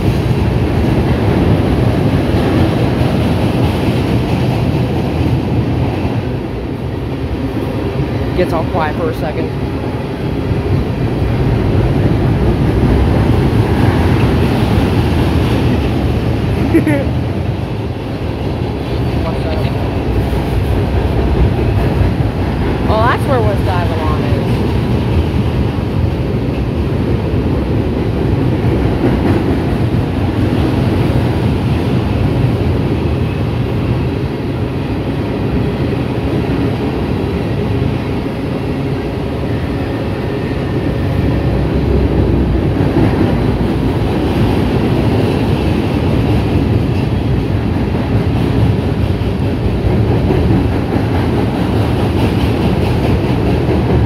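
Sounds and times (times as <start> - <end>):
freight cars rumbling over bridge: 0.0 - 54.0.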